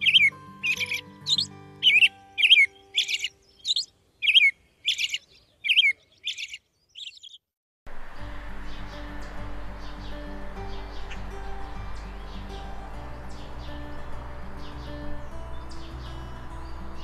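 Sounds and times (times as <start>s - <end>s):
robin calling: 0.0s - 7.5s, 8.7s - 17.0s.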